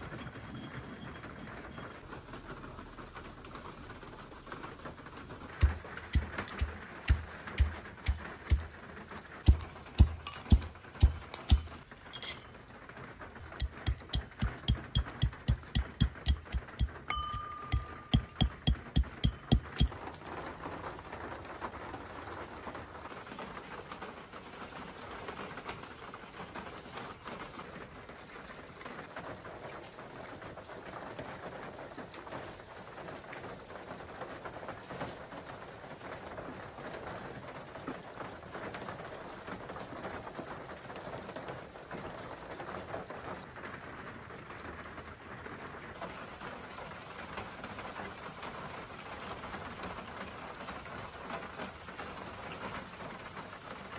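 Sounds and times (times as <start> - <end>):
rain patter: 0.0 - 53.9.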